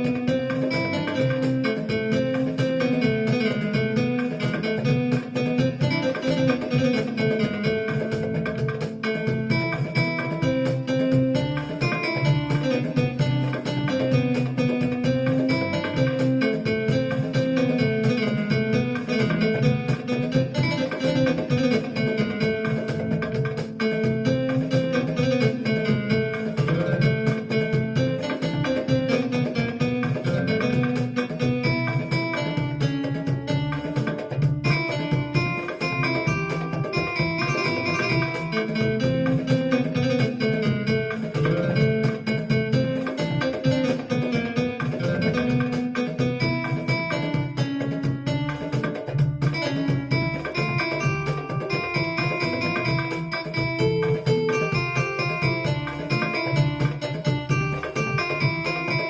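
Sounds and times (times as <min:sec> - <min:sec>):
electronic keyboard melody: 0:00.0 - 0:59.0.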